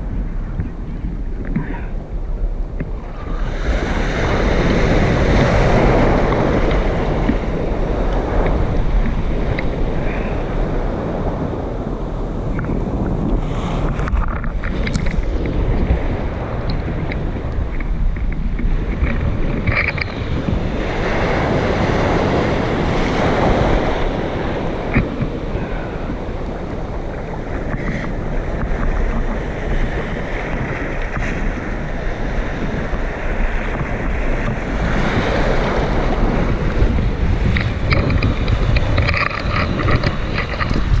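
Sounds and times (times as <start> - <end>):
surf washing over sand: 0.0 - 41.0
wind buffeting microphone: 0.0 - 41.0.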